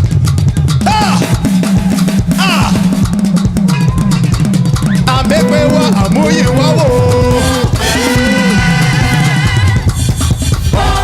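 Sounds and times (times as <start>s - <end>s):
bass line: 0.0s - 11.0s
drum kit playing fast beat: 0.0s - 11.0s
upbeat gospel band music: 0.0s - 11.0s.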